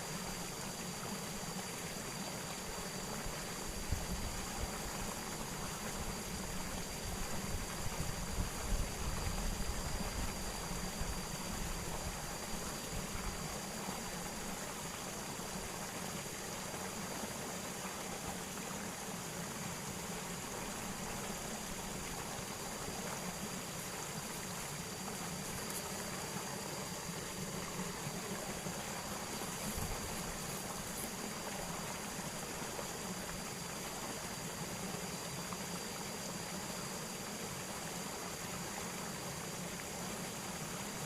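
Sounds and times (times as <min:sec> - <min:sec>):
rushing of flowing water: 0:00.0 - 0:41.0.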